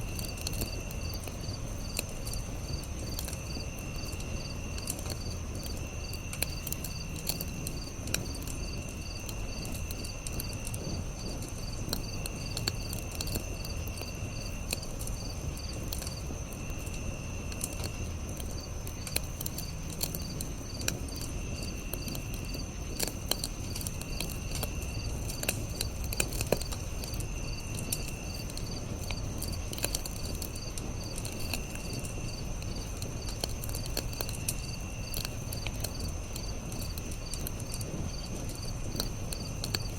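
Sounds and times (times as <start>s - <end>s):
campfire crackling and popping: 0.0s - 39.9s
crickets chirping: 0.0s - 39.9s
high insect trill: 0.0s - 39.9s.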